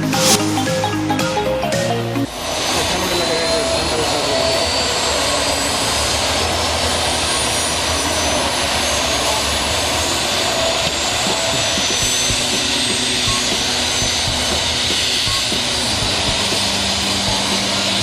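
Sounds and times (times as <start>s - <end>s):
high turbine whine: 0.0s - 18.0s
helicopter rotor and turbine noise: 2.3s - 18.0s.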